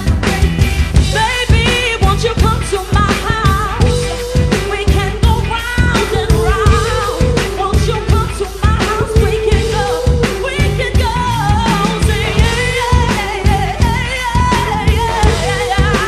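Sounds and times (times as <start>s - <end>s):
band playing: 0.0s - 16.0s
person singing with vibrato: 0.0s - 16.0s.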